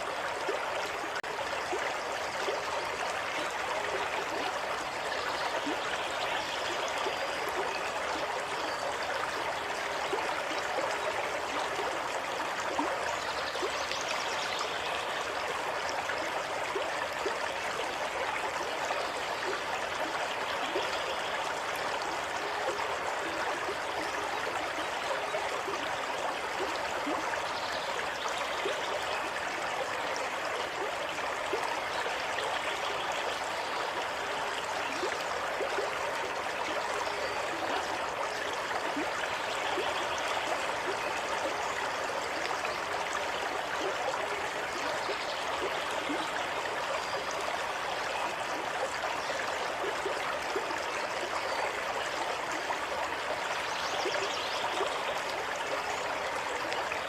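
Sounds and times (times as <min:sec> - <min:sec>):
stream water running over stones: 0:00.0 - 0:57.0.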